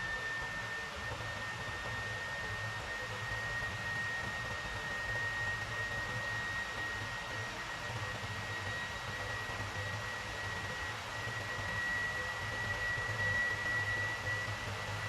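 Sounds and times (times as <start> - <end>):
small fan running: 0.0 - 15.0.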